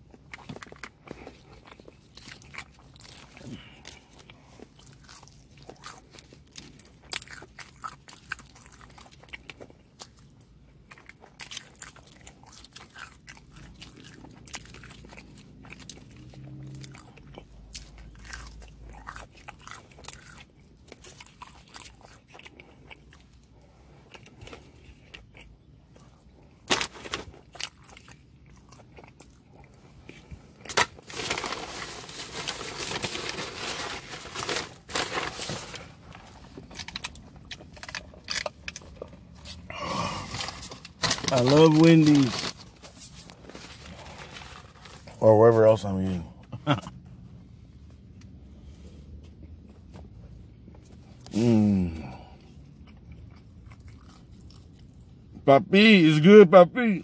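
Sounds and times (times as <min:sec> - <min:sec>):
man chewing food: 0:00.0 - 0:45.2, 0:46.3 - 0:55.4.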